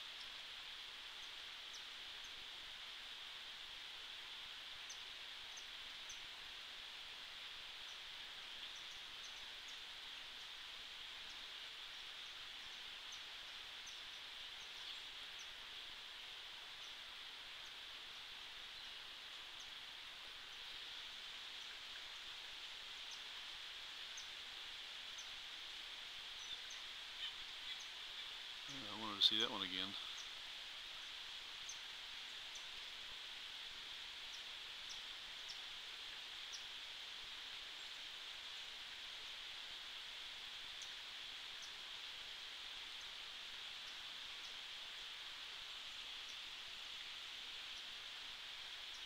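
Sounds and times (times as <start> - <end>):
faint high-pitched hiss: 0.0 - 49.0.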